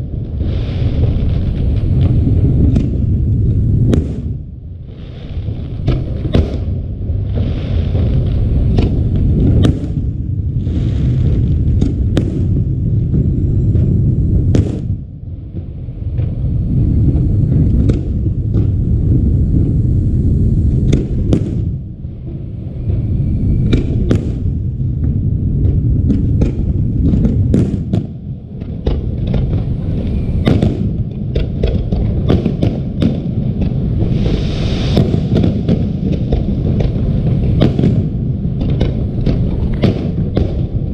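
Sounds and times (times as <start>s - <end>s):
fireworks cracks and crackles: 0.0s - 40.9s
fireworks hiss: 0.0s - 40.9s
fireworks shell bursts rumbling: 0.0s - 40.9s.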